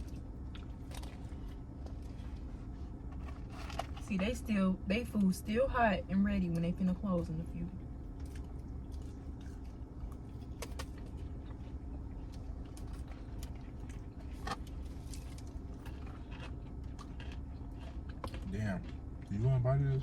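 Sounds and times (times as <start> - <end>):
people eating and handling packaging: 0.0 - 4.4, 7.2 - 20.0
steady low hum: 0.0 - 20.0.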